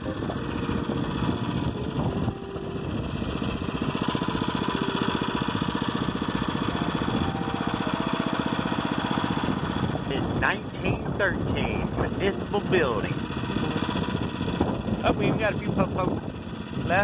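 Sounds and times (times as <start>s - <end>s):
small petrol engine puttering: 0.0s - 17.0s.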